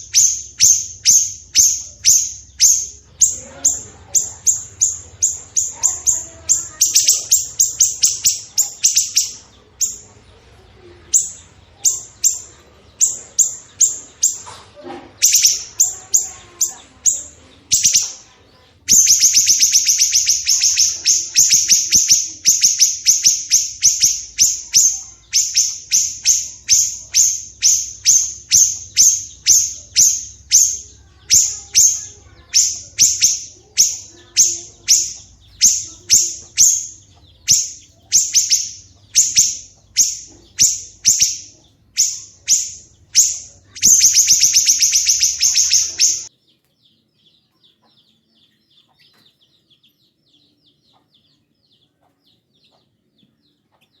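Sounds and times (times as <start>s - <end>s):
songbird harsh rasping calls: 0.0s - 10.2s, 11.0s - 46.3s.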